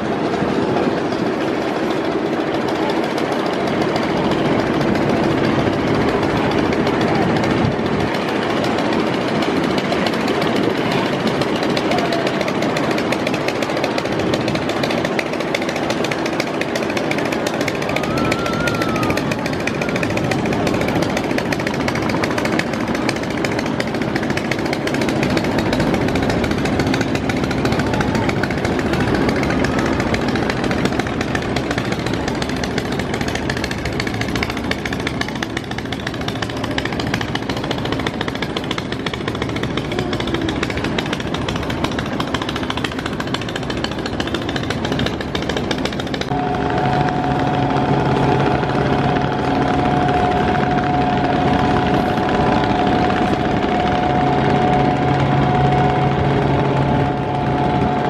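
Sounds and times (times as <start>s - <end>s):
boat diesel engines running: 0.0s - 58.0s
engine hum with held tone: 0.0s - 58.0s
water rushing along hulls: 0.0s - 58.0s.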